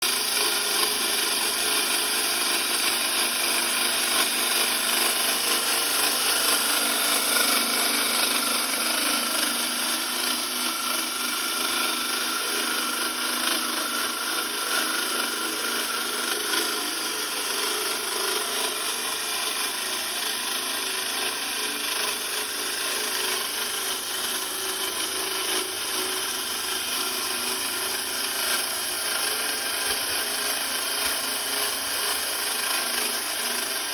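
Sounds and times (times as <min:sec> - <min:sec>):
core drill boring: 0:00.0 - 0:33.9.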